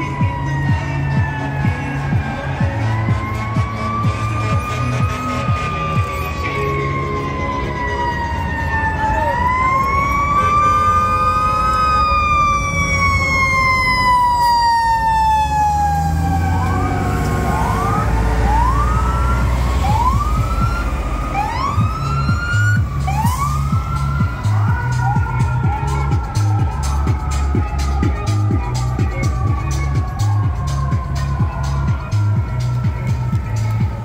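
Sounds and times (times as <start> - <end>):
siren whoops: 0.0 - 33.8
fire truck engine rumble: 0.0 - 34.0
fire truck siren wailing: 0.0 - 34.0.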